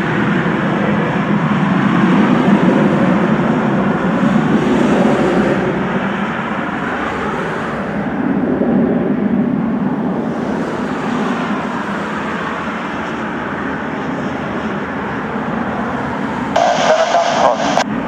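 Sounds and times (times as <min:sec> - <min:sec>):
deep drone of piston engines: 0:00.0 - 0:18.0.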